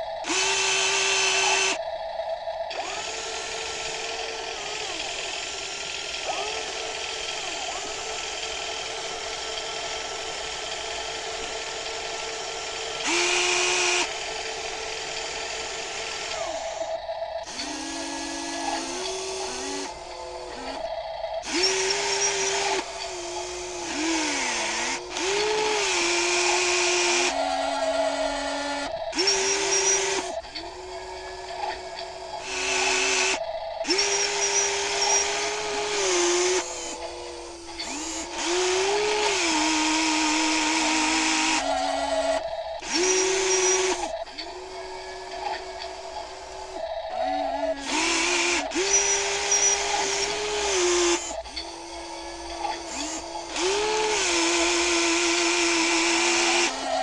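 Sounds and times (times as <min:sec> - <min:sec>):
steady hum: 0:00.0 - 0:56.8
electric motors whining: 0:00.0 - 0:57.0.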